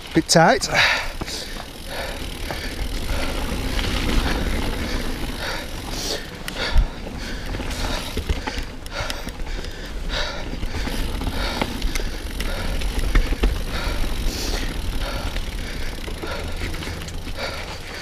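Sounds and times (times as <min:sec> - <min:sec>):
bike frame and chain rattle: 0:00.0 - 0:18.0
mountain bike on dirt trail: 0:00.0 - 0:18.0.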